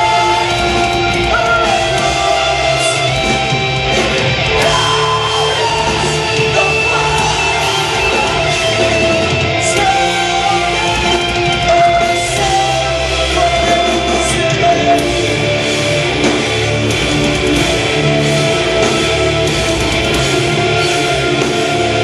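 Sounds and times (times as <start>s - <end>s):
metalcore band playing live: 0.0s - 22.0s.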